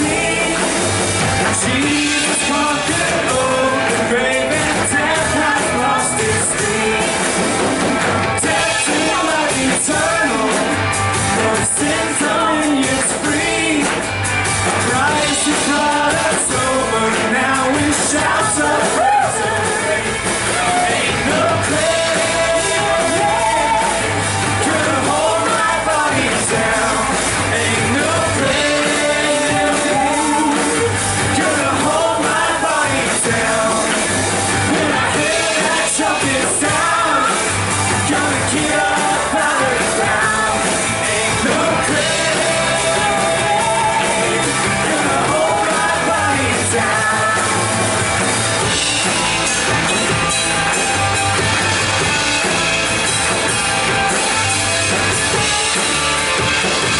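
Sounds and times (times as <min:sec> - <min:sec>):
repeating bass notes: 0:00.0 - 0:56.9
rock band with singer: 0:00.0 - 0:56.9.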